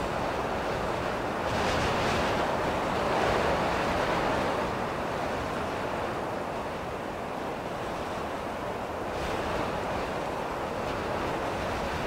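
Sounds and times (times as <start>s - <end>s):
strong wind gusts: 0.0s - 12.0s.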